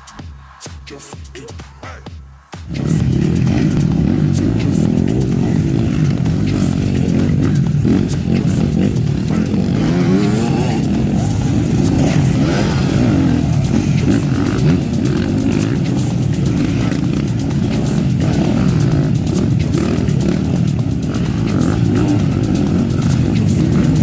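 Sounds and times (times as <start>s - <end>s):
dirt bike engines revving: 2.7s - 24.0s.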